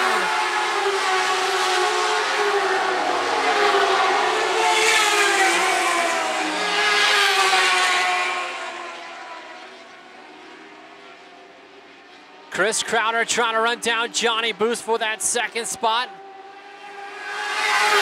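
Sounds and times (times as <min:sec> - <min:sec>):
high-revving racing engines passing: 0:00.0 - 0:18.0.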